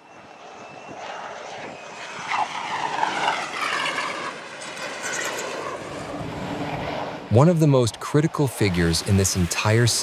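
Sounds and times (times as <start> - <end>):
jet engine whining rush: 0.1 - 10.0.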